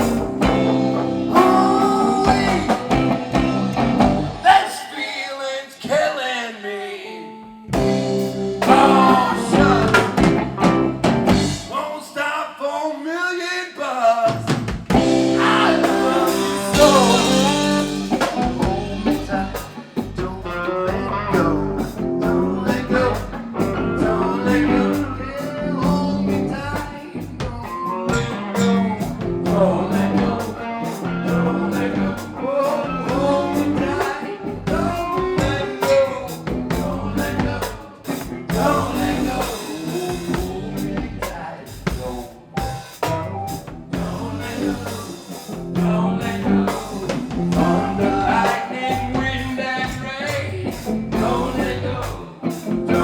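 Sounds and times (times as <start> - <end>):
bass guitar: 0.0 - 4.5, 7.7 - 11.8, 14.8 - 53.0
electric guitar: 0.0 - 4.6, 7.1 - 11.8, 14.7 - 53.0
drums: 0.0 - 6.2, 7.7 - 12.3, 13.7 - 53.0.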